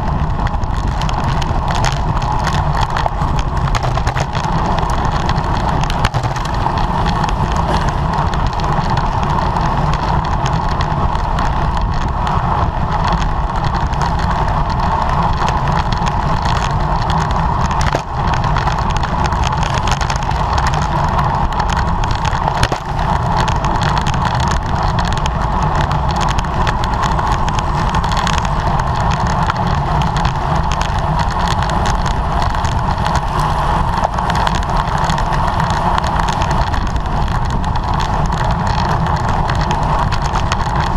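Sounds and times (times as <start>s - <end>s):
tyres rumbling on road: 0.0s - 40.9s
wind rushing over microphone: 0.0s - 40.9s.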